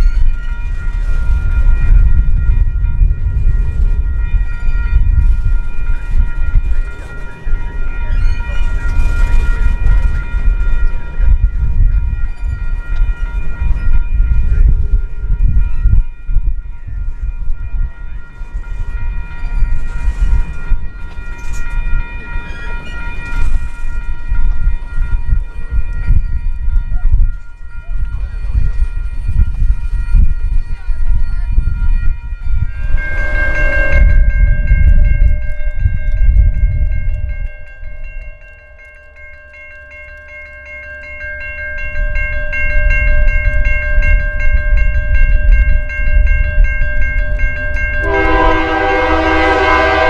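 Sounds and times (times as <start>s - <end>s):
high-pitched ringing tones: 0.0s - 50.0s.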